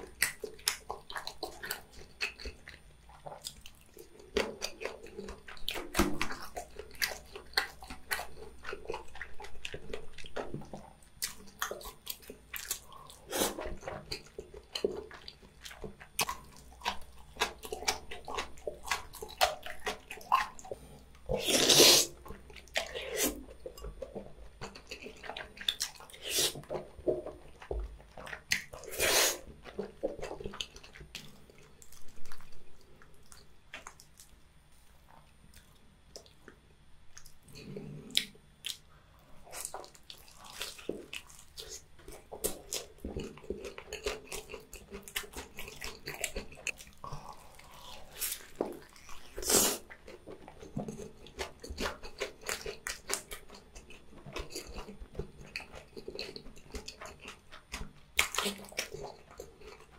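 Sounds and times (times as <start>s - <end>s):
wet chewing and smacking: 0.0s - 59.9s.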